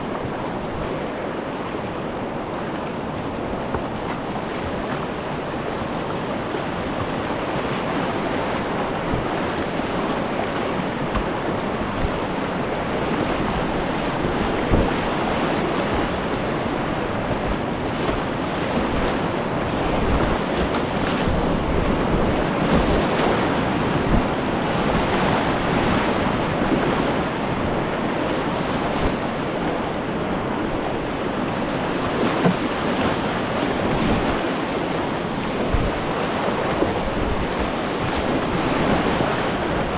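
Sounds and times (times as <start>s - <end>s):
whitewater rushing: 0.0s - 39.9s
wind buffeting microphone: 2.3s - 39.9s.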